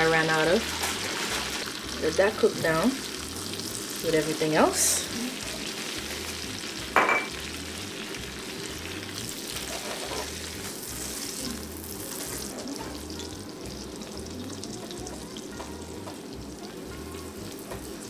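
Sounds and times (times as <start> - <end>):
sauce sizzling in a saucepan: 0.0 - 18.0.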